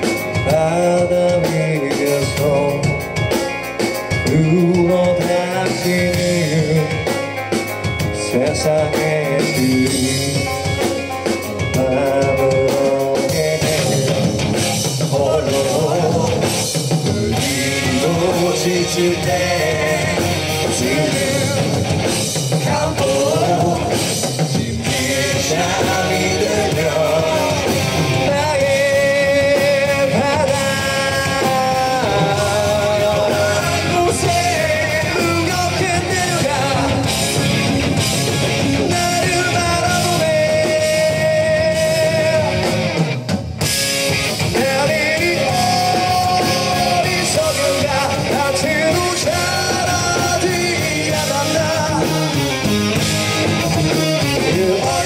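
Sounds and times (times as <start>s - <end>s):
man singing lead vocal: 0.0s - 43.2s, 44.1s - 55.0s
drum kit: 0.0s - 55.0s
electric bass: 0.0s - 55.0s
electric guitar: 0.0s - 55.0s.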